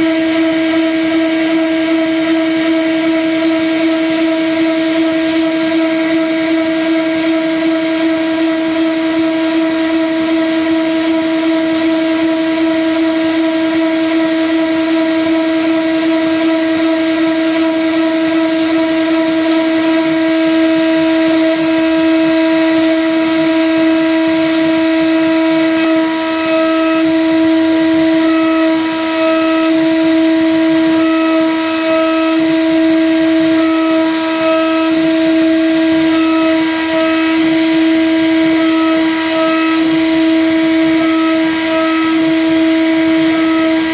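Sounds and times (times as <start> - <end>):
higher machining tone: 0.0 - 43.9
milling machine cutting metal: 0.0 - 43.9.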